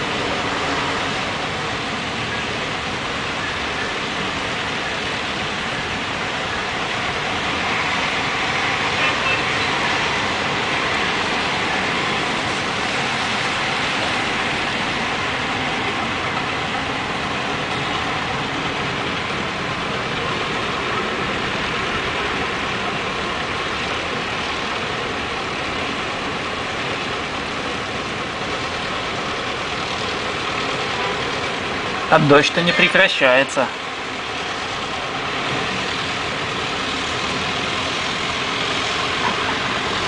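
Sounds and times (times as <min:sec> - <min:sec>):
heavy rain and floodwater hiss: 0:00.0 - 0:40.0.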